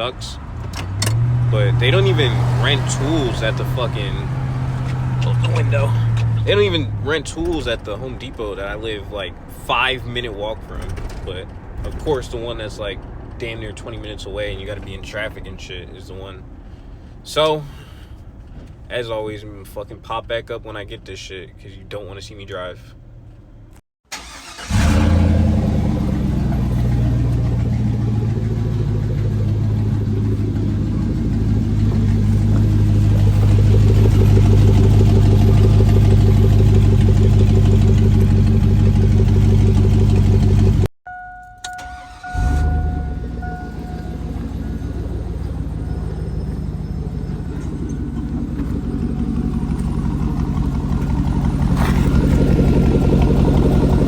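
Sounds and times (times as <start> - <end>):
truck engine starting and running: 0.0 - 21.0, 22.3 - 54.0.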